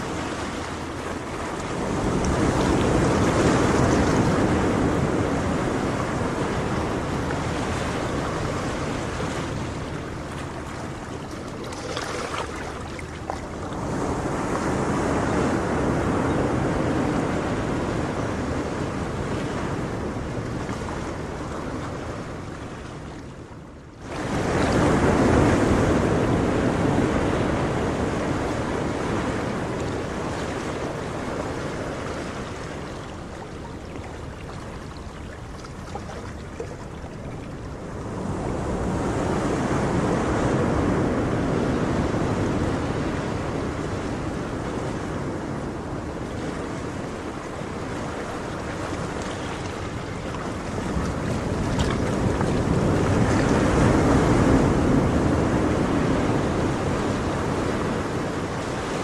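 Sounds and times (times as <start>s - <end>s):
ocean surf washing in: 0.0s - 23.2s, 24.0s - 59.0s.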